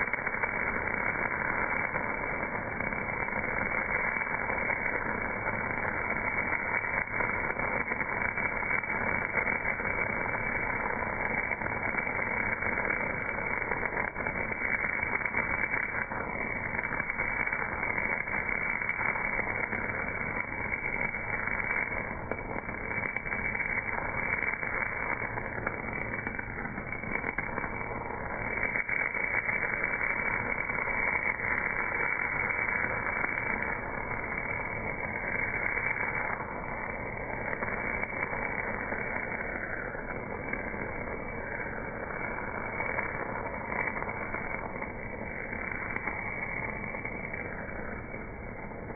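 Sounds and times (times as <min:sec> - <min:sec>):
welding arc crackling hiss: 0:00.0 - 0:48.9.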